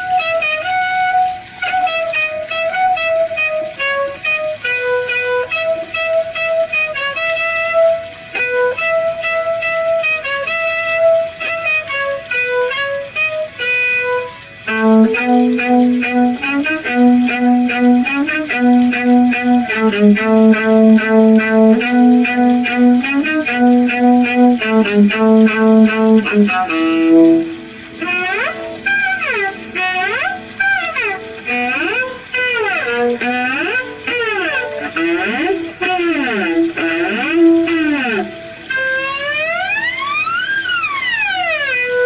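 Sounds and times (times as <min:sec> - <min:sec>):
lower repeated notes: 0:00.0 - 0:42.0
violin slow melody: 0:00.0 - 0:42.0.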